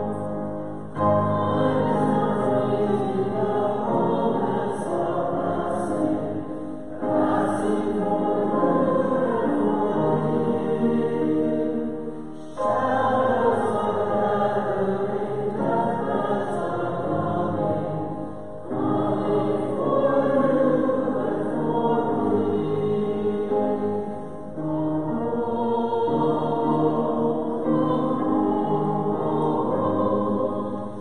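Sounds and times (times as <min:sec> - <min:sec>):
congregation singing a hymn: 0:00.0 - 0:31.0.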